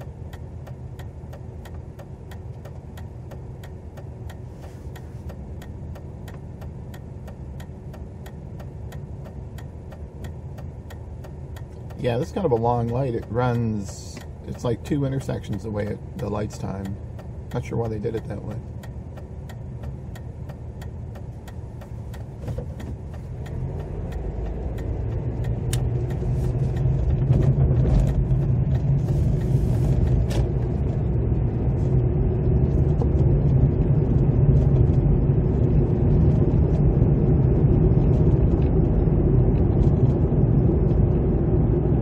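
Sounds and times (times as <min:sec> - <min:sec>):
car engine accelerating: 0:00.0 - 0:42.0
road noise: 0:00.0 - 0:42.0.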